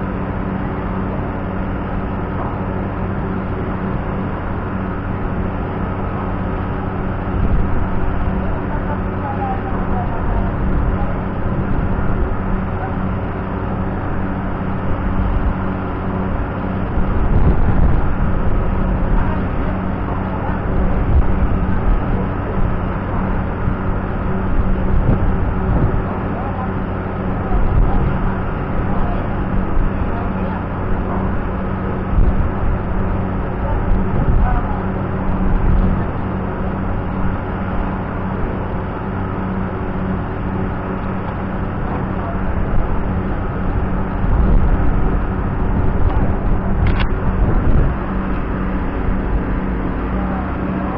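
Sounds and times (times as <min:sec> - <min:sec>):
loud machinery drone: 0:00.0 - 0:50.9
low hum: 0:00.0 - 0:50.9.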